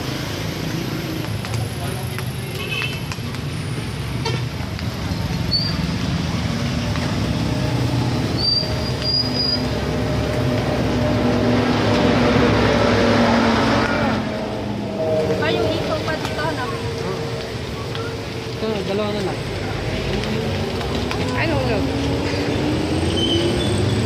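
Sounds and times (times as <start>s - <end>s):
street traffic rumble: 0.0s - 24.0s
vehicle engine: 0.0s - 24.0s.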